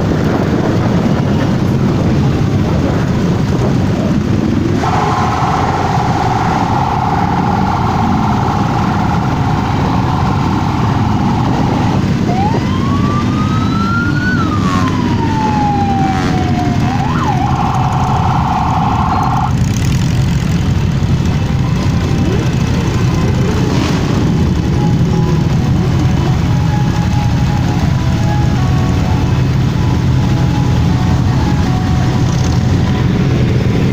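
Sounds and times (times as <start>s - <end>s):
motorcycle engines rumbling: 0.0s - 33.9s
siren steady tone and wail: 4.7s - 20.0s, 21.0s - 33.9s.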